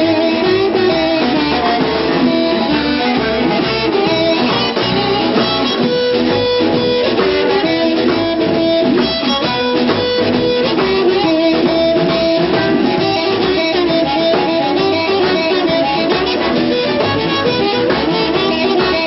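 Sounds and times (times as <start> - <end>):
blues harmonica: 0.0 - 19.0
drum kit: 0.0 - 19.0
electric guitar: 0.0 - 19.0.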